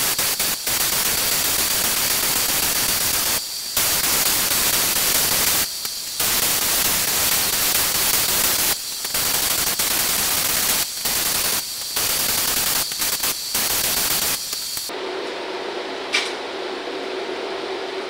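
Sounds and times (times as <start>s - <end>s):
spray gun hissing: 0.0s - 14.9s.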